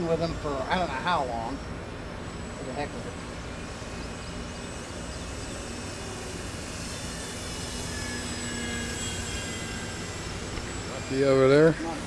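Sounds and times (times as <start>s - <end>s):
model airplane engine drone: 0.0s - 12.0s.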